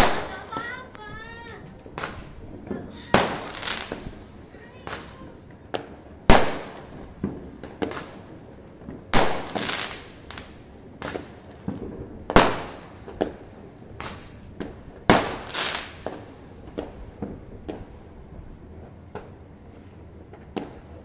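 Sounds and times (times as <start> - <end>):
fireworks bangs: 0.0 - 21.0
fireworks crackle: 0.0 - 21.0.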